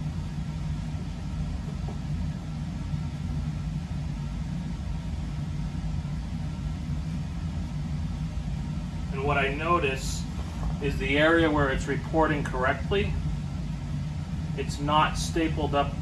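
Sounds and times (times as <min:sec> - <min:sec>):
low rumbling machinery hum: 0:00.0 - 0:16.0.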